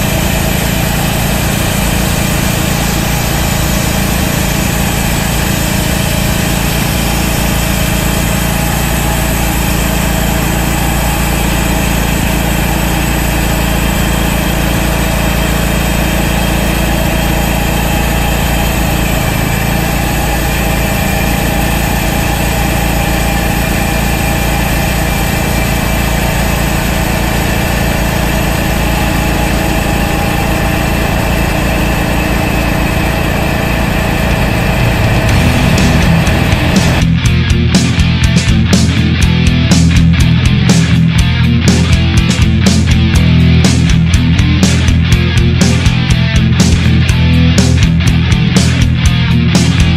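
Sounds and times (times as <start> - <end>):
band sawmill cutting log: 0.0 - 37.2, 40.6 - 49.9.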